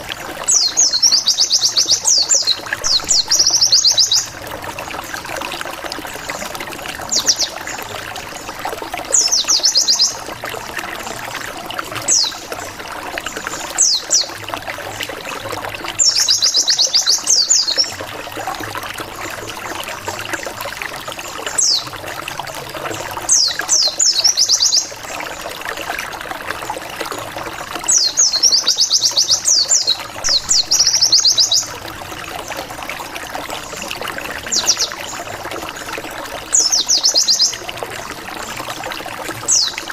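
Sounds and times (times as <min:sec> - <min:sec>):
trickling background: 0:00.0 - 0:39.9.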